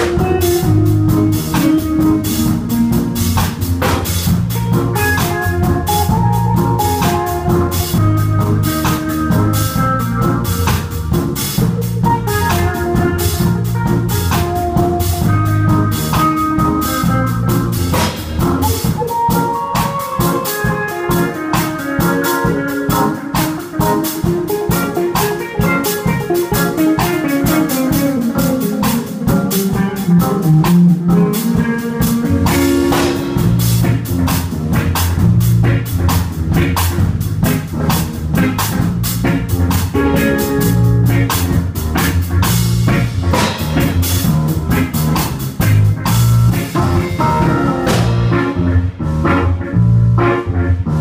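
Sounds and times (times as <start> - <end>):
bass line: 0.0 - 51.0
drums: 0.0 - 51.0
keyboard melody: 0.0 - 51.0.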